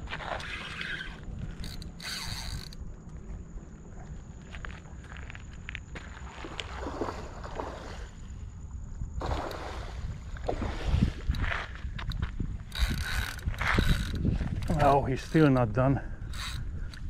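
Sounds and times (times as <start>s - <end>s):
wind rumble on microphone: 0.0s - 5.8s, 6.4s - 17.0s
water sloshing and gurgling: 0.0s - 14.8s.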